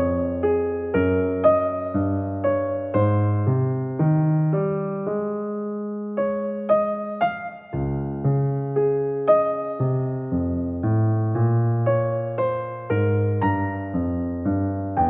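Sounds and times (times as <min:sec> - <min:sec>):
soft electric piano notes: 0:00.0 - 0:15.0.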